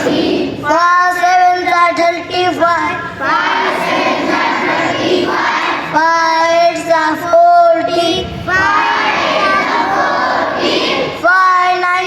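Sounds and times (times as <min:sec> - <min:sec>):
children singing in chorus: 0:00.0 - 0:01.5, 0:02.4 - 0:12.0.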